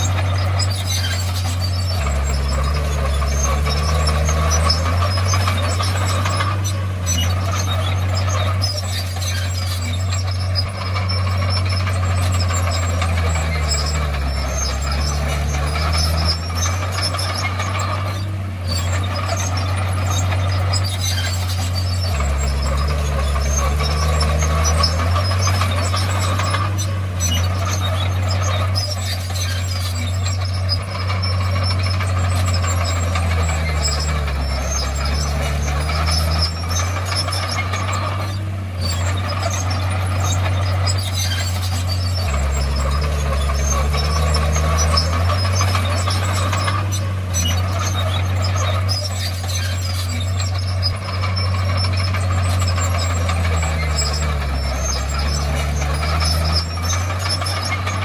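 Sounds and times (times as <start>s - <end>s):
bulldozer diesel engine running: 0.0s - 58.0s
tracks squealing metallically: 0.0s - 58.0s.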